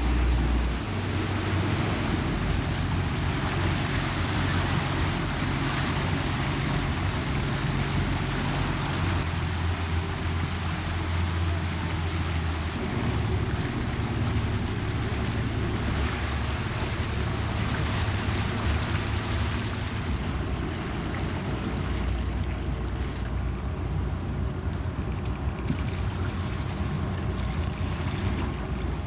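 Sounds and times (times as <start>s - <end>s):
motorboat engine running: 0.0s - 29.0s.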